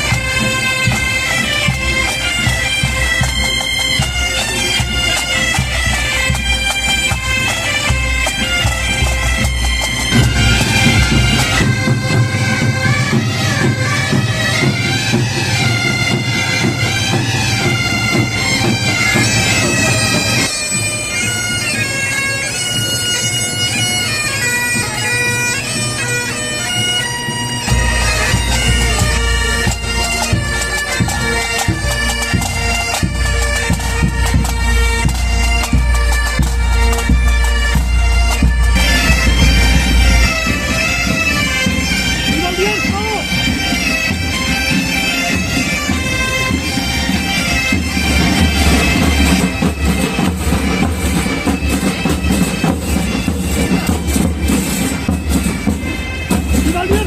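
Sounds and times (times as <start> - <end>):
massed bagpipes playing: 0.0 - 57.0.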